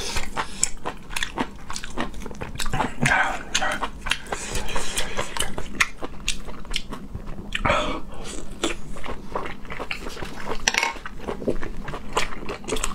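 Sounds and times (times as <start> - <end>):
person chewing soft food: 0.0 - 12.9.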